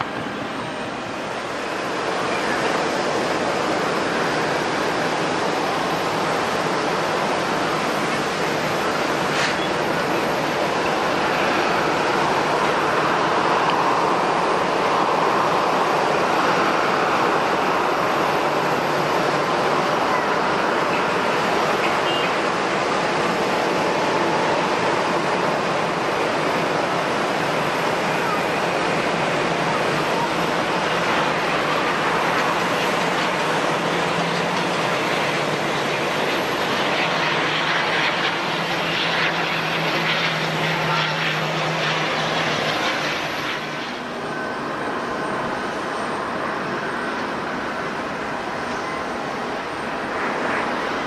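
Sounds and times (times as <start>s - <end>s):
jet engines rushing: 0.0s - 51.0s.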